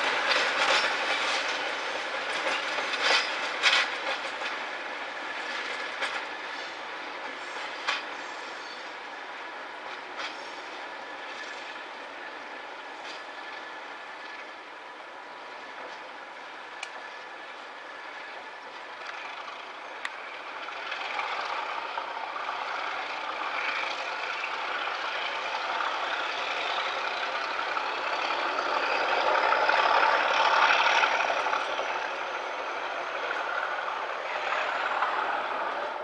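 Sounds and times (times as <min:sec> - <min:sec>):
diesel train running: 0:00.0 - 0:36.0.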